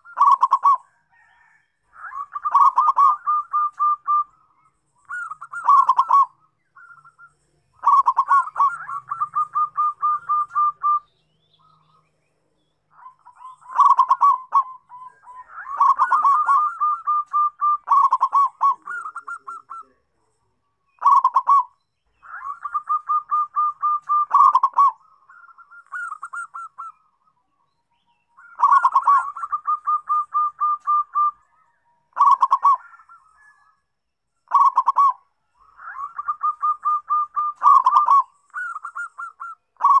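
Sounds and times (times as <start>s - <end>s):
dove cooing: 0.0s - 12.0s, 12.9s - 20.3s, 20.9s - 27.1s, 28.4s - 33.7s, 34.5s - 40.0s.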